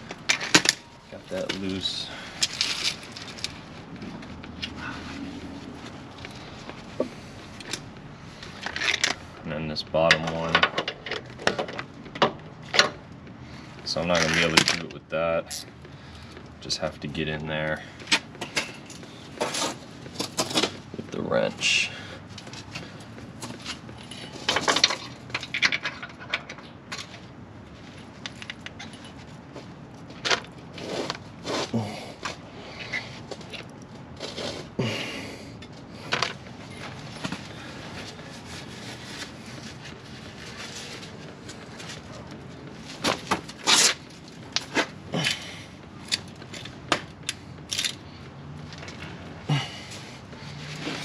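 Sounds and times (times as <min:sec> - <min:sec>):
hand tools clicking and scraping: 0:00.0 - 0:09.4, 0:17.2 - 0:20.8, 0:21.6 - 0:27.2, 0:27.9 - 0:51.0.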